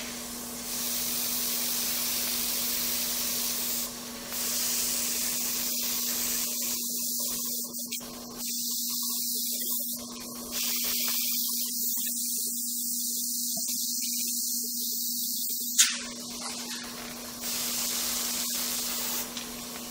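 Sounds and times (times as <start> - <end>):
airbrush spraying hiss: 0.0 - 16.1, 17.3 - 19.8.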